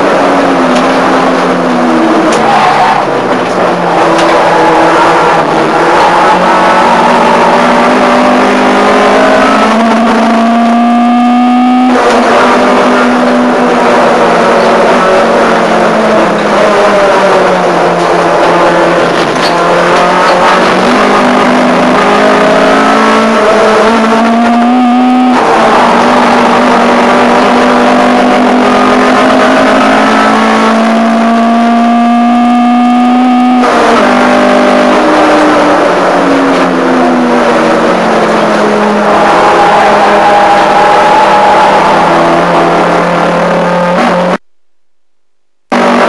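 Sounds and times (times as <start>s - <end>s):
race car engine at full throttle: 0.0s - 46.0s.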